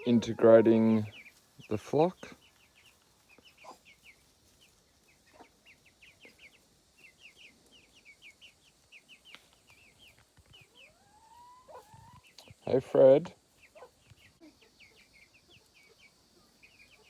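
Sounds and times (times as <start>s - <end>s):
hen calling: 0.0s - 2.8s, 5.1s - 17.0s
chicks peeping: 0.0s - 17.0s.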